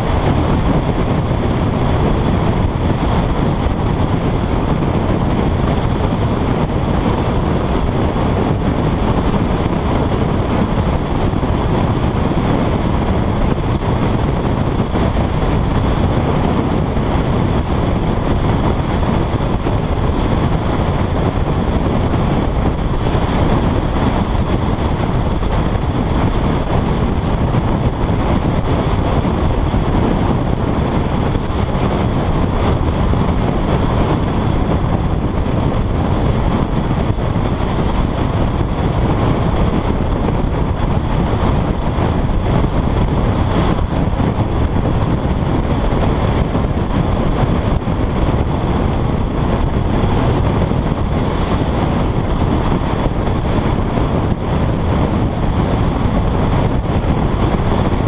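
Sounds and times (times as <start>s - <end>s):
engine and road noise: 0.0s - 58.0s
wind buffeting microphone: 0.0s - 58.0s.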